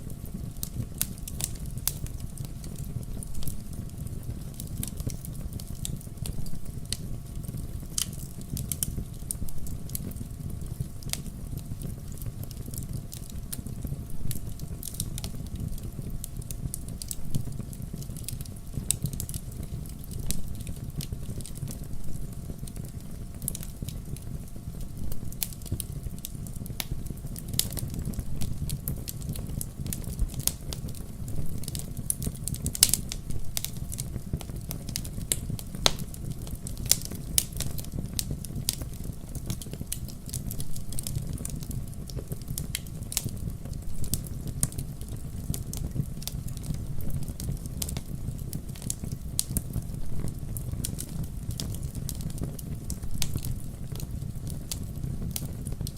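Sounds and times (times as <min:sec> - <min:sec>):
low rumble of flames: 0:00.0 - 0:55.9
wood fire crackling and popping: 0:00.0 - 0:55.9.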